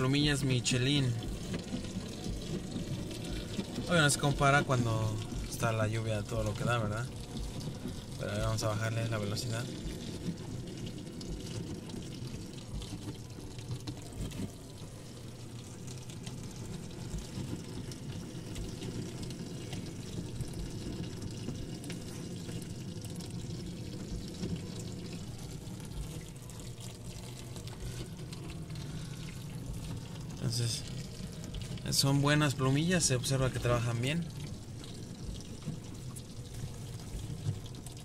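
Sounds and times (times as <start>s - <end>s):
water spraying against windshield: 0.0s - 38.0s.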